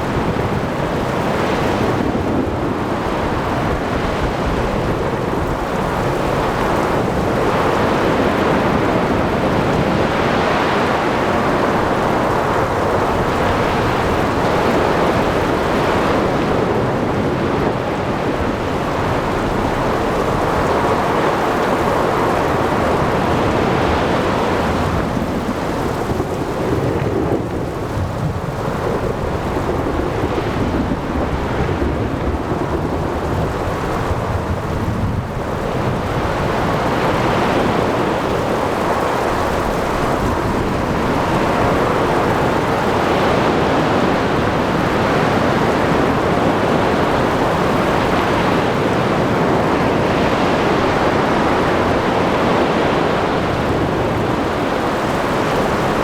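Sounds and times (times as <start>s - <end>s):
heavy rain: 0.0s - 56.0s
waves: 0.0s - 56.0s
wind: 0.0s - 56.0s.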